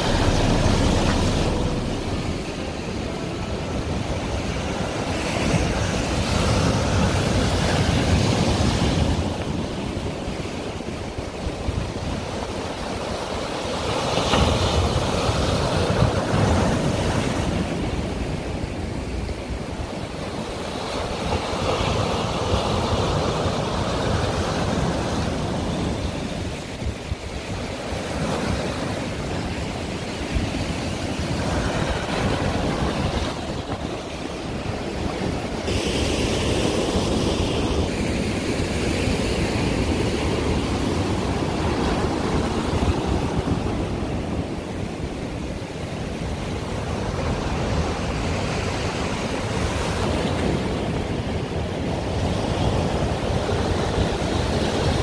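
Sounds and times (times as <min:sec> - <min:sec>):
waves breaking on pebbly shore: 0:00.0 - 0:55.0
wind on microphone: 0:00.0 - 0:55.0.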